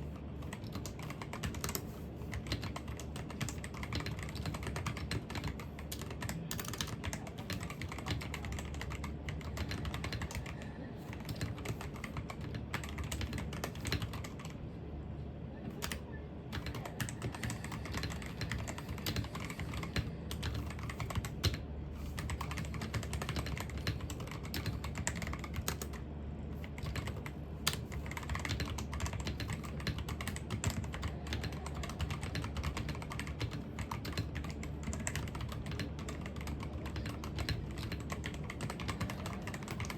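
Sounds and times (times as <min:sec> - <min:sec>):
computer keyboard typing: 0:00.0 - 0:14.6, 0:15.7 - 0:26.0, 0:26.6 - 0:39.9.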